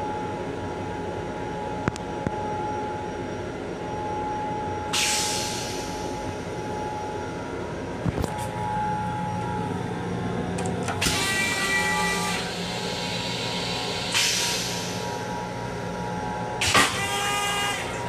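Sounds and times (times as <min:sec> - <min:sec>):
railcar rumble with whine: 0:00.0 - 0:18.0.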